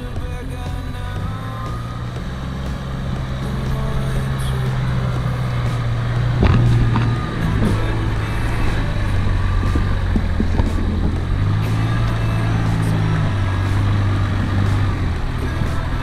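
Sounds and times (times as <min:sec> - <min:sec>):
off-road vehicle engine running: 0:00.0 - 0:16.0
sharp thump: 0:01.7 - 0:15.9.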